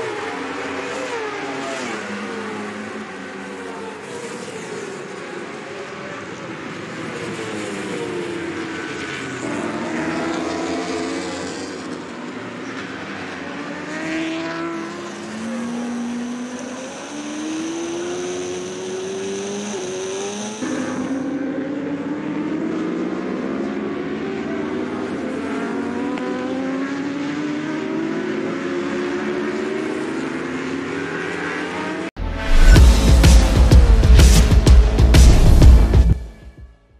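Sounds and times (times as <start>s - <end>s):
racing motorcycle engines revving: 0.0s - 36.2s.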